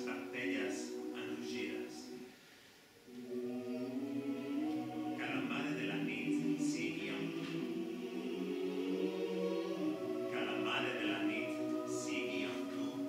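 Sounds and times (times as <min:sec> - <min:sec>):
choir singing chords: 0:00.0 - 0:13.0.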